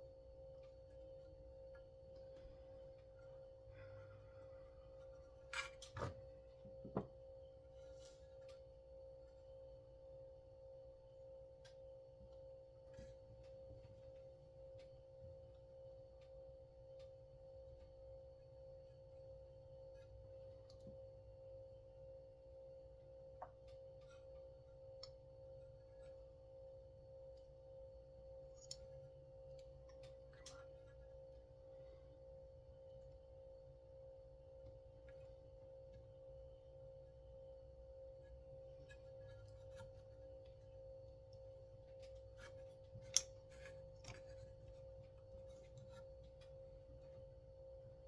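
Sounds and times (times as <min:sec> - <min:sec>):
faint high hum: 0:00.0 - 0:48.0.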